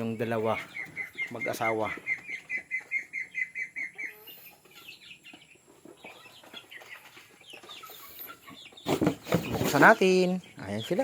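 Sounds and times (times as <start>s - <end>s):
chickens clucking and peeping: 0.0s - 11.0s.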